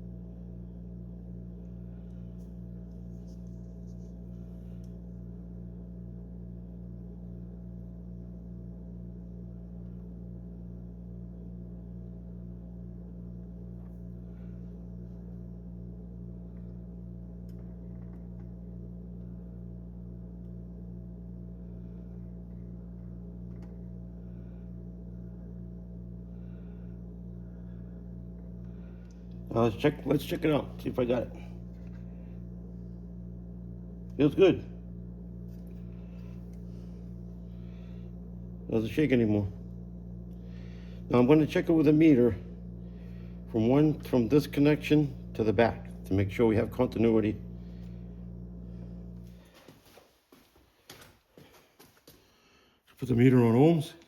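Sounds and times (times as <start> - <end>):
steady low layered hum: 0.0 - 50.1.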